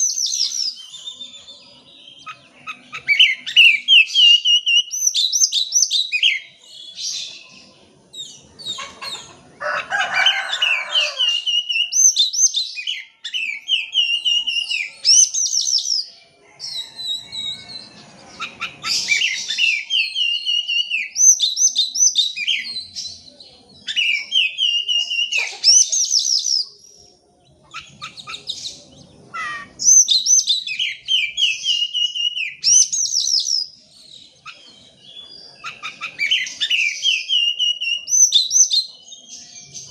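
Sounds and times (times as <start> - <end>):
songbird singing whistled phrases: 0.0 - 7.6, 11.4 - 16.1, 16.7 - 27.1, 27.7 - 39.9.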